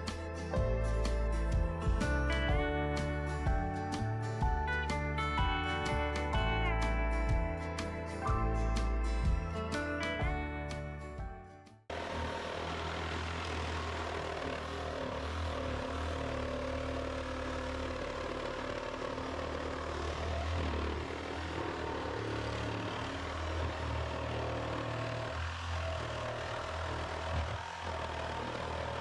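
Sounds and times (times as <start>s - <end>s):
motor drone with low hum: 0.0s - 29.0s.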